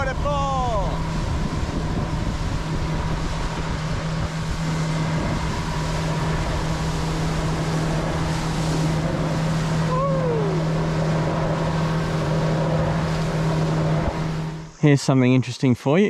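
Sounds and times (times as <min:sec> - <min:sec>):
water rushing from hull: 0:00.0 - 0:14.8
outboard motor humming: 0:00.0 - 0:14.9.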